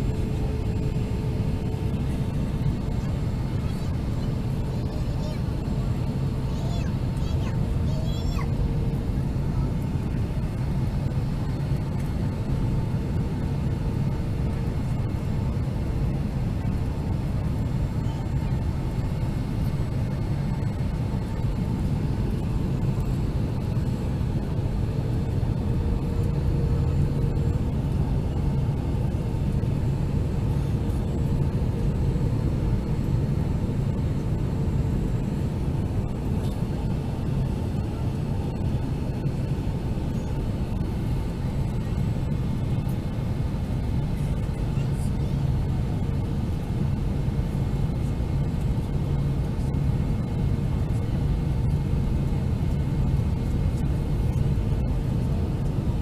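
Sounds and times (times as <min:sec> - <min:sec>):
airflow noise over fuselage: 0:00.0 - 0:56.0
airplane cabin engine roar: 0:00.0 - 0:56.0.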